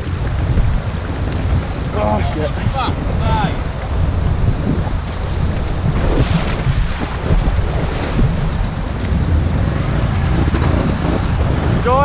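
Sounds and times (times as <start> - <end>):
atv engine running: 0.0 - 12.0
water splashing and rushing: 0.0 - 12.0
wind on microphone: 0.0 - 12.0.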